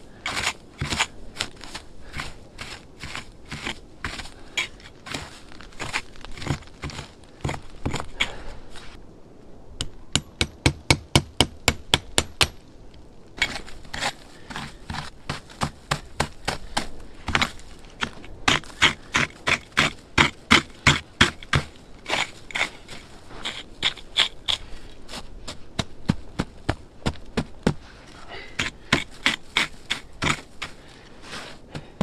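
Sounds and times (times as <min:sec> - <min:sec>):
packed snow crunching: 0:00.0 - 0:09.0, 0:13.4 - 0:32.0.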